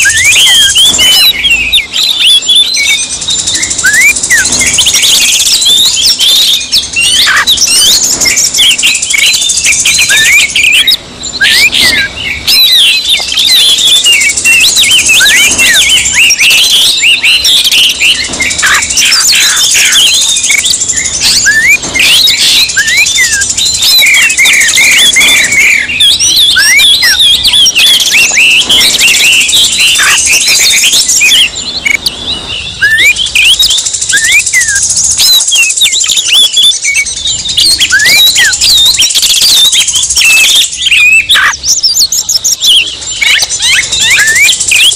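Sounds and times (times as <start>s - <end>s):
bird song whistles and trills: 0.0s - 44.9s.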